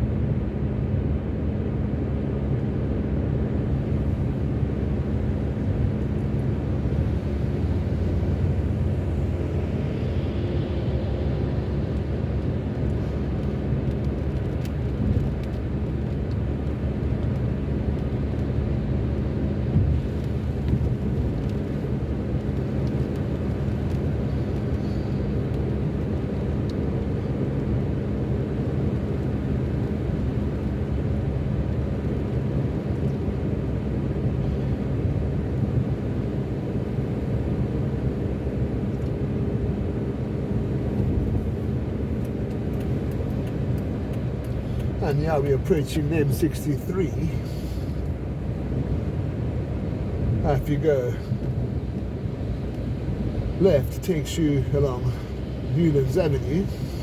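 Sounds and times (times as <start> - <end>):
car driving heard from inside: 0.0 - 57.0.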